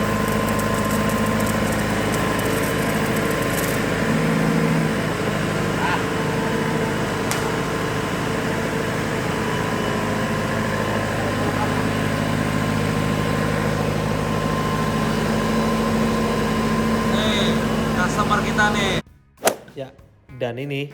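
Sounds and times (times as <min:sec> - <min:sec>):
diesel generator running: 0:00.0 - 0:19.0.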